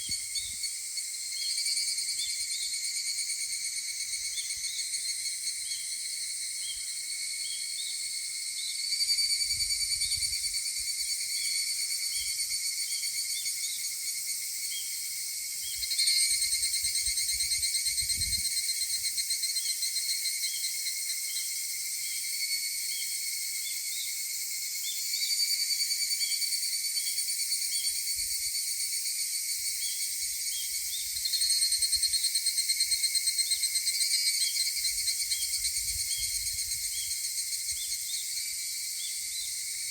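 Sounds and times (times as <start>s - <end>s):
cicadas chorus of pulsing trills: 0.0s - 39.9s.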